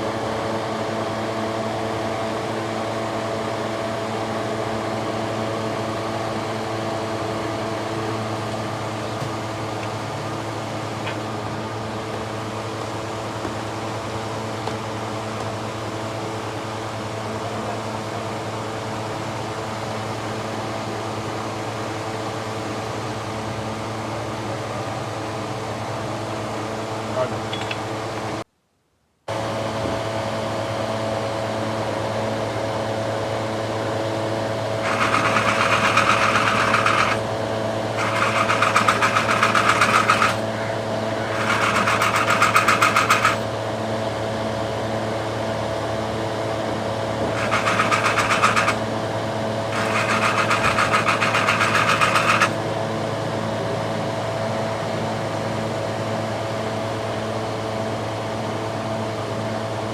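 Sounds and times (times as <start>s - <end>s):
steady mechanical hum: 0.0s - 28.5s, 29.3s - 59.9s.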